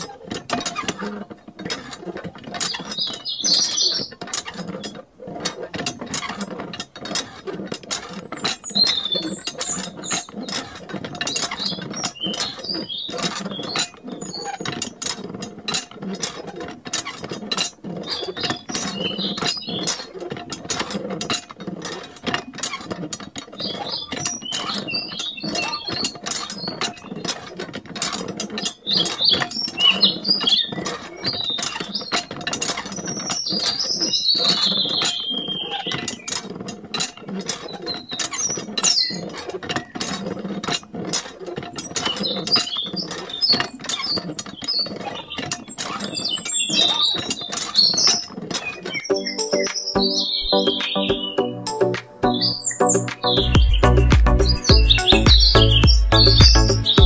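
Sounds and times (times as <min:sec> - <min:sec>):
hand pump clicking and rattling: 0:00.0 - 0:50.3.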